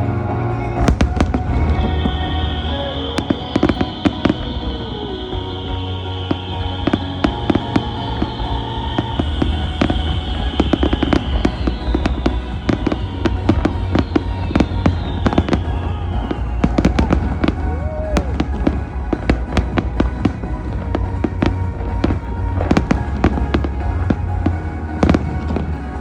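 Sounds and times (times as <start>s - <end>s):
music playing: 0.0s - 26.0s
fireworks bangs and crackling: 0.8s - 26.0s.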